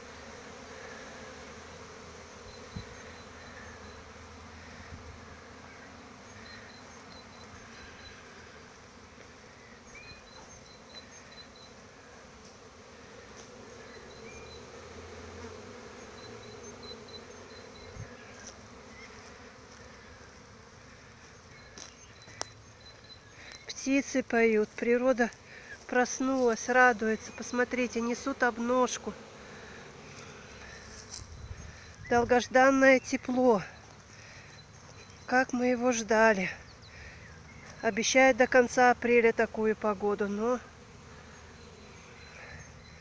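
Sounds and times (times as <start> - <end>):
honeybees humming: 0.0 - 43.0.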